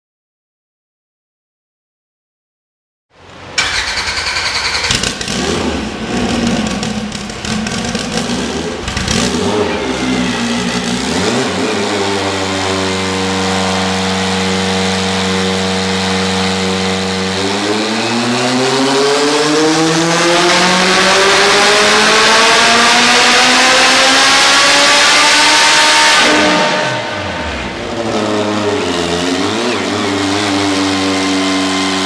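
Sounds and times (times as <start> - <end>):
turbocharged race car engine: 3.2 - 32.0.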